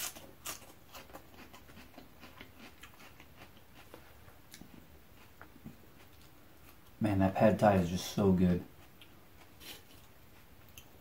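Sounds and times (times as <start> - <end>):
faint chewing: 0.0 - 7.0, 8.0 - 11.0.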